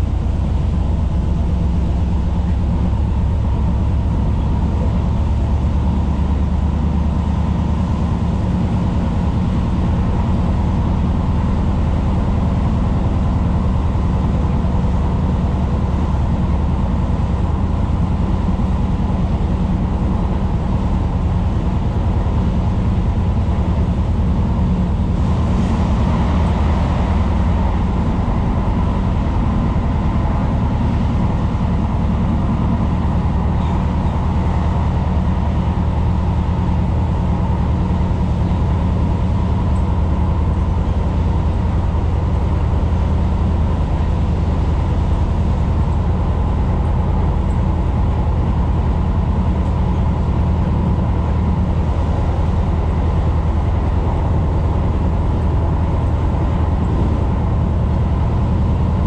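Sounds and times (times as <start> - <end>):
train motor hum: 0.0 - 59.0
train wheels rumbling on track: 0.0 - 59.0.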